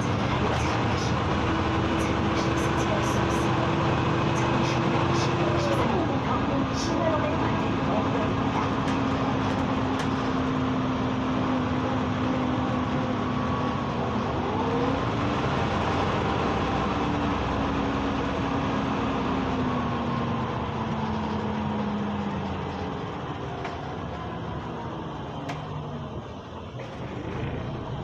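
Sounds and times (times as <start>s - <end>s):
bus engine and drivetrain hum: 0.0s - 28.0s
road noise: 0.0s - 28.0s.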